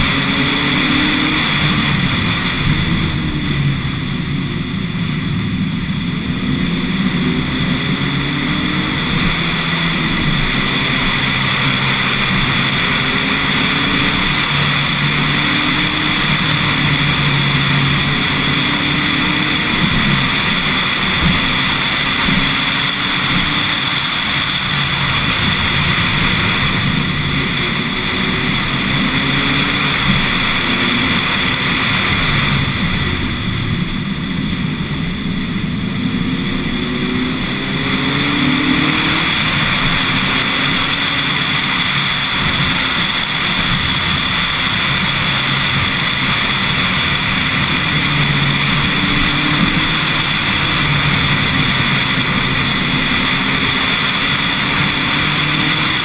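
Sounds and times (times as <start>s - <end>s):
car engine pulling hard: 0.0s - 56.0s
road noise: 0.0s - 56.0s.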